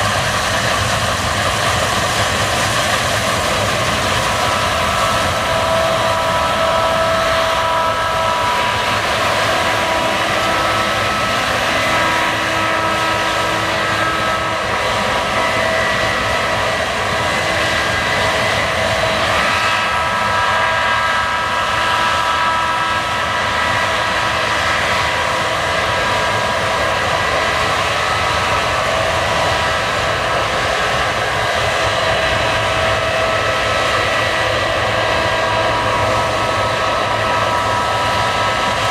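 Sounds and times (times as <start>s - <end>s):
combine harvester running: 0.0s - 38.9s
steady mechanical whining tones: 0.0s - 38.9s.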